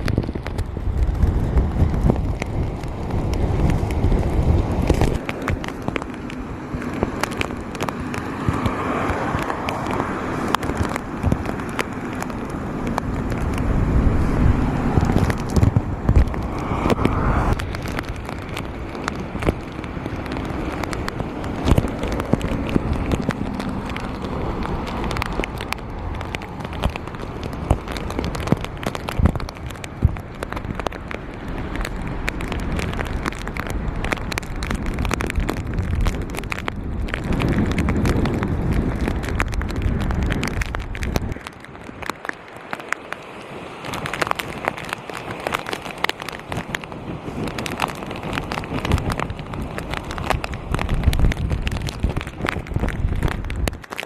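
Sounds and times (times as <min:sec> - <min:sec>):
muffled wind rumble: 0:00.0 - 0:54.0
rain crackling on plastic bag: 0:00.0 - 0:54.0.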